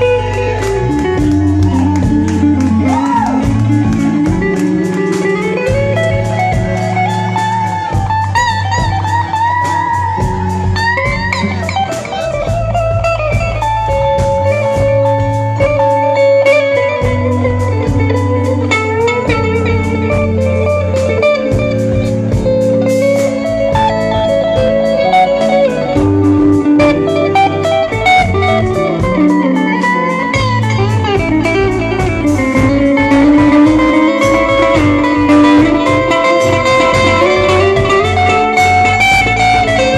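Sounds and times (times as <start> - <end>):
bass line: 0.0 - 39.9
steady drum beat: 0.0 - 39.9.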